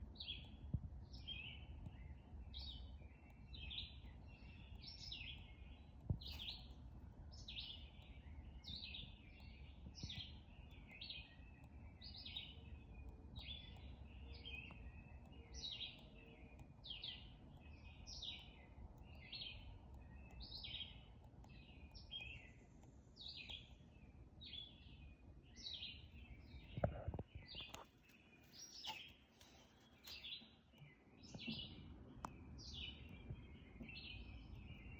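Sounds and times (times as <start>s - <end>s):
faint bird chirping: 0.0s - 34.9s.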